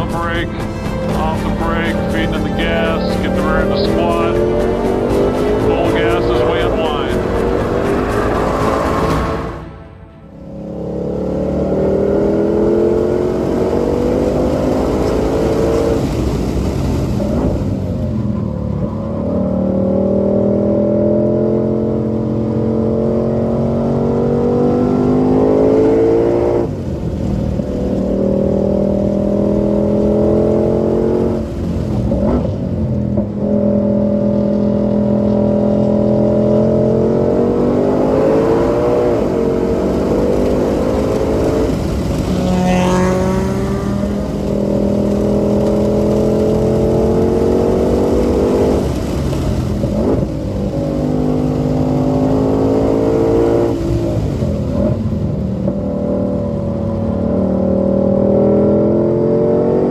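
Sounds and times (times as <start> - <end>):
car engine at full throttle: 0.0 - 59.9.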